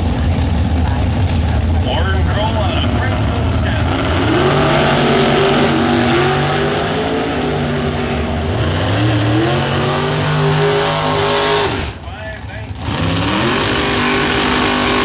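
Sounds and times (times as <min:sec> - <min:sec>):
drag racing cars accelerating: 0:00.0 - 0:15.0.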